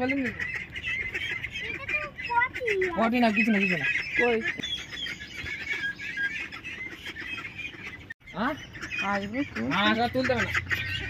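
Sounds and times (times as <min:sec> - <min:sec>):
ducks quacking: 0:00.0 - 0:11.0
high-pitched peeps: 0:00.0 - 0:11.0.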